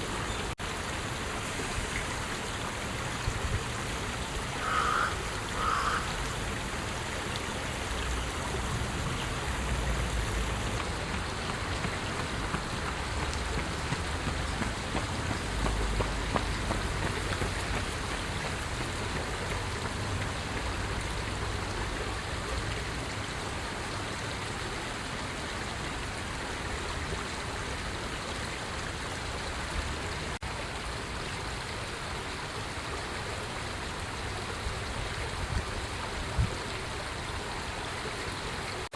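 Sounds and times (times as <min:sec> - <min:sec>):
rushing outdoor noise: 0:00.0 - 0:38.9.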